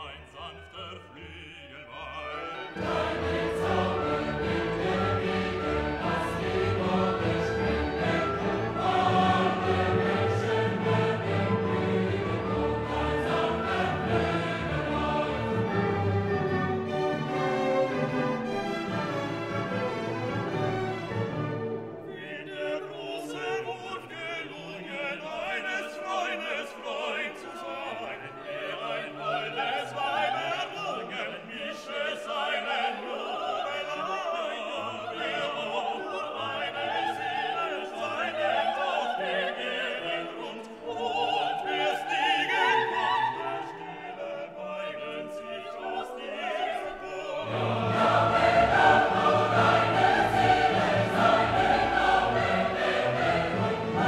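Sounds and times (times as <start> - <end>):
choir and orchestra: 0.0 - 54.0.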